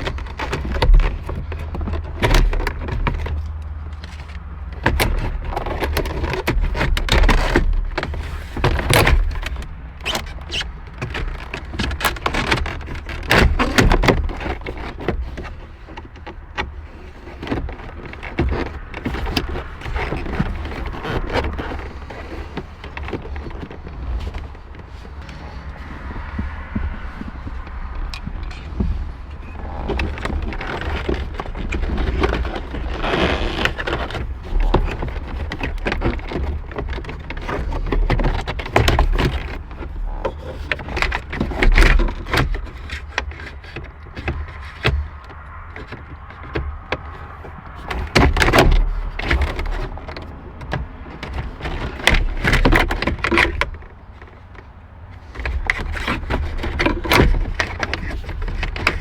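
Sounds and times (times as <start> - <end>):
plastic trim clicking and scraping: 0.0 - 59.0.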